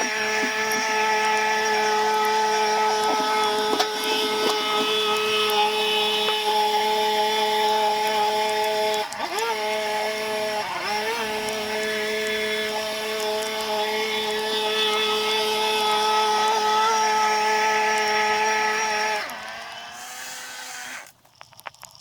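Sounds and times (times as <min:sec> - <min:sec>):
small power tool engine running: 0:00.0 - 0:21.2.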